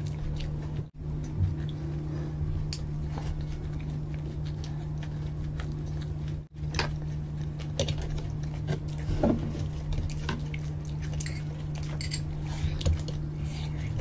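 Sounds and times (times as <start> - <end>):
chewing and wet mouth sounds: 0.0 - 14.0
steady low hum: 0.0 - 14.0.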